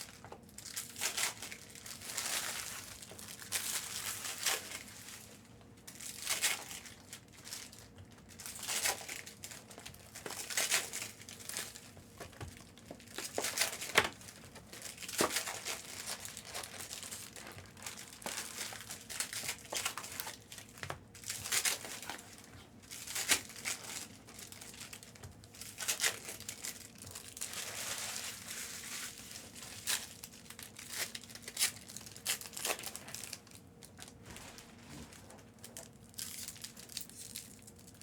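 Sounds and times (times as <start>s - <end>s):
plastic wrappers tearing and crinkling: 0.0s - 38.0s.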